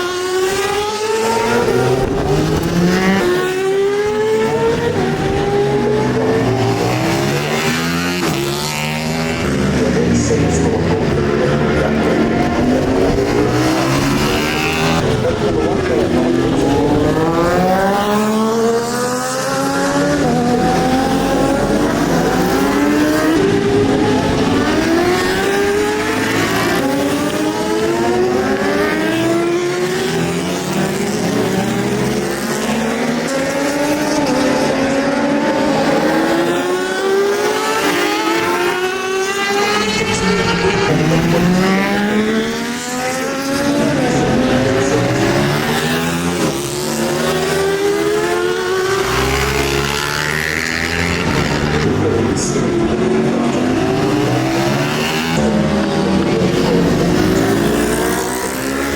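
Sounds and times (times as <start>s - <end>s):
motorcycle engines racing: 0.0s - 58.9s.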